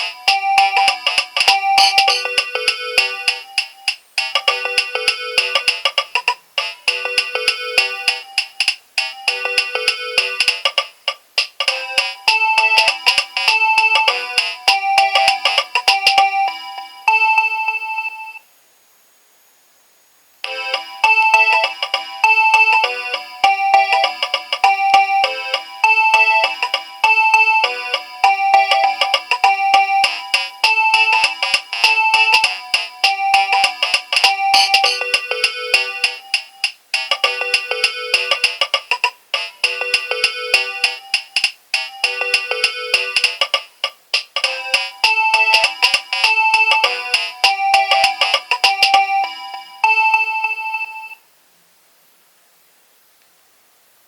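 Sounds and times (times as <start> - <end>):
polyphonic phone ringtone: 0.0 - 10.8, 11.6 - 18.4, 20.5 - 43.6, 44.4 - 51.2.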